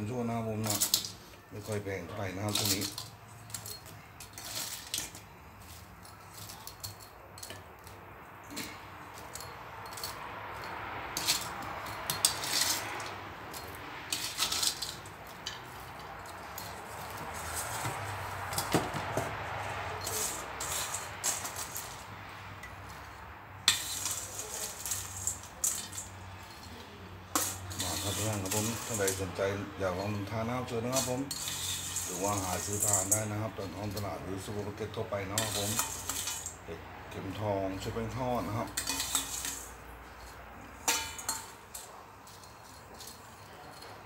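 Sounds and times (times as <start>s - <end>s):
metal tongs clinking on steel bowl: 0.2s - 17.9s, 19.9s - 36.7s, 37.3s - 44.0s.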